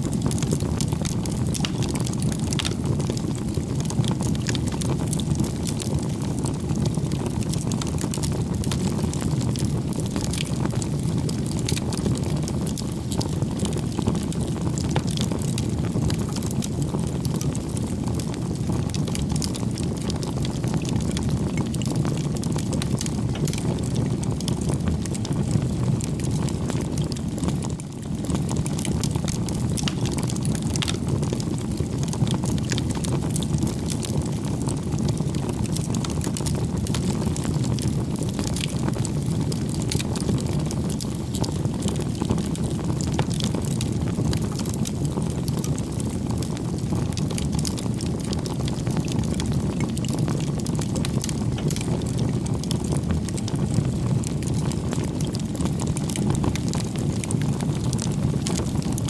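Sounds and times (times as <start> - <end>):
campfire flames rushing: 0.1 - 59.0
wood crackling and popping: 0.1 - 59.0.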